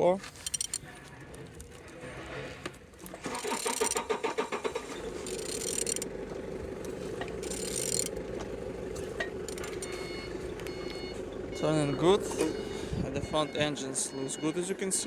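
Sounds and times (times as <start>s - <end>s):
engine clattering and humming: 0.5s - 15.0s.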